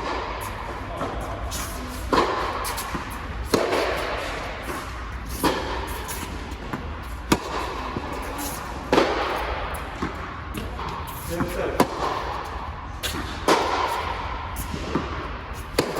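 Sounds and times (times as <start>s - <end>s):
tennis ball hit by racquet: 0.0s - 15.9s.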